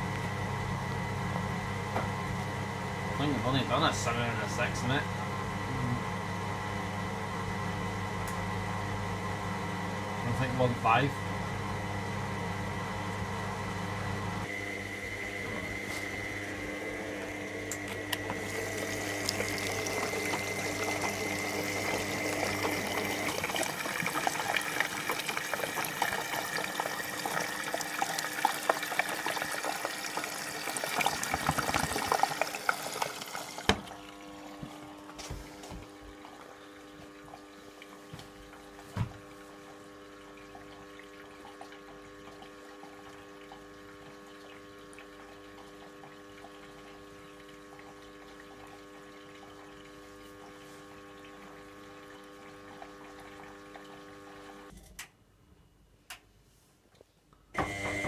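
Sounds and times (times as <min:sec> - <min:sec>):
water rushing into washing machine: 0:00.0 - 0:54.7, 0:57.6 - 0:58.0
faint machine hum: 0:00.0 - 0:58.0.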